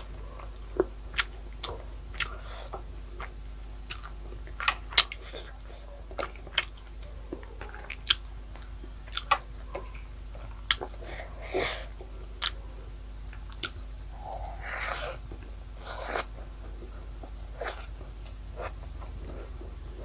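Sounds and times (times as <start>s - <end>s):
wet chewing with mouth clicks: 0.0s - 12.6s, 13.3s - 19.8s.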